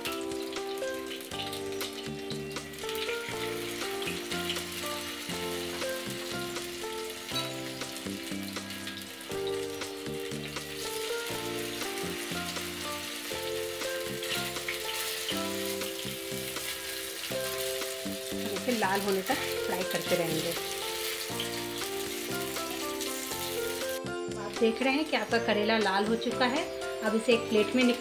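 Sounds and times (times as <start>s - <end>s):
food sizzling in oil: 0.0s - 28.0s
soft background music: 0.0s - 28.0s.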